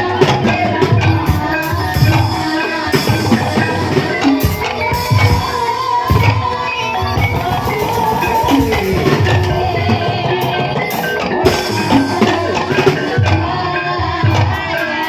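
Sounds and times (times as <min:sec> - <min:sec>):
drums beating steady rhythm: 0:00.0 - 0:15.0
gamelan music: 0:00.0 - 0:15.0
ringing pitched percussion: 0:00.0 - 0:15.0.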